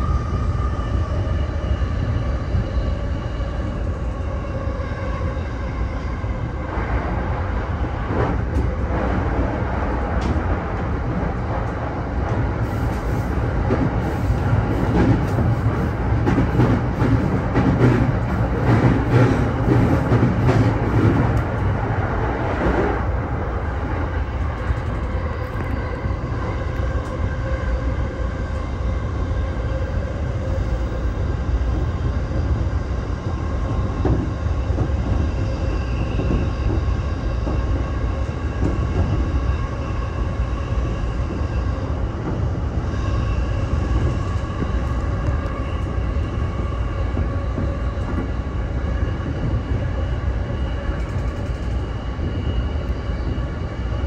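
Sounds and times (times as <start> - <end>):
train wheels rumbling on rails: 0.0 - 54.0
train whine: 0.0 - 54.0.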